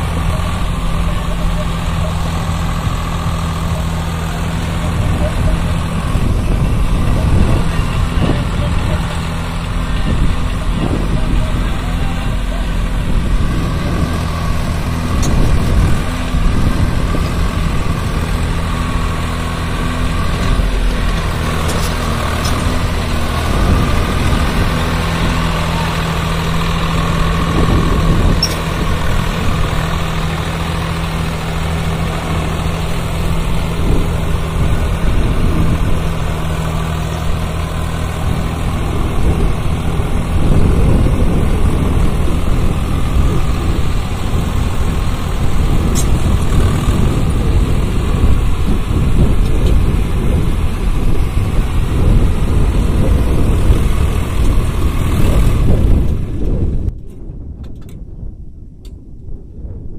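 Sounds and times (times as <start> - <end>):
tractor diesel engine running: 0.0 - 58.2.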